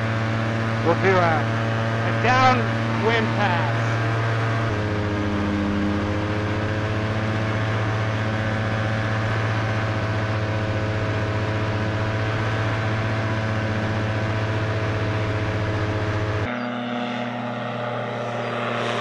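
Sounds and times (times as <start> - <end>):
ultralight aircraft engine drone: 0.0 - 19.0.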